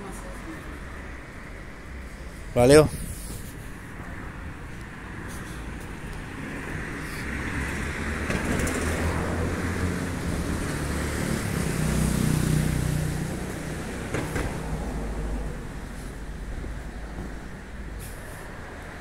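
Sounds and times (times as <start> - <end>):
car passing: 0.0 - 19.0.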